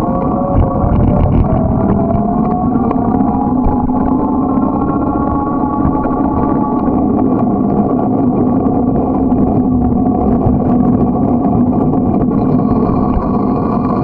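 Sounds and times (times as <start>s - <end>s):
bicycle tyres rolling on asphalt: 0.0s - 14.0s
steady hum: 0.0s - 14.0s
wind on microphone: 0.0s - 14.0s.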